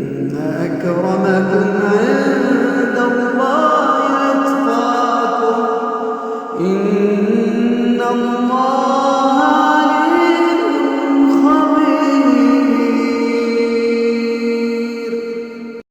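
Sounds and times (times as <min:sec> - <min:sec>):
man chanting recitation: 0:00.0 - 0:15.8.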